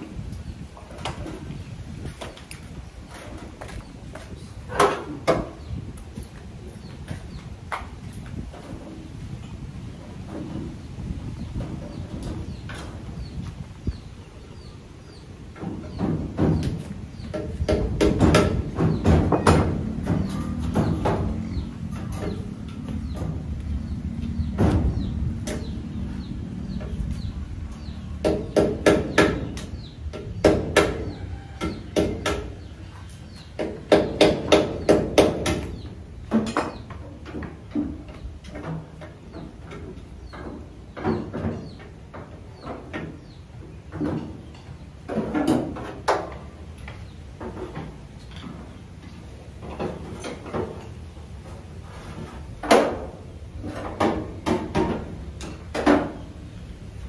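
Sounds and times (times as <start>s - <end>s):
tools clanking and knocking: 0.8s - 13.4s, 15.5s - 56.4s.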